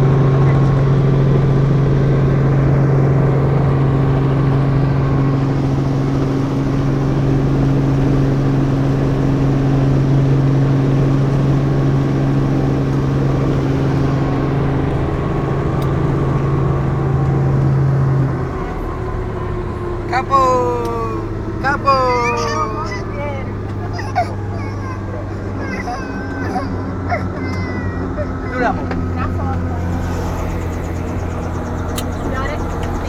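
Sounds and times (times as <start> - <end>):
helicopter drone inside cabin: 0.0 - 33.0.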